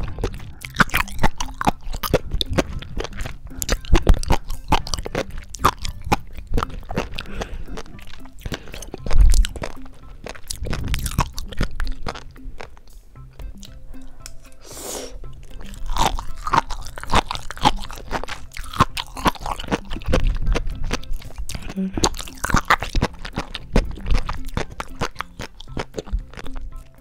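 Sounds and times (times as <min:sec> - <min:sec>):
chewing with crisp pops: 0:00.0 - 0:27.0.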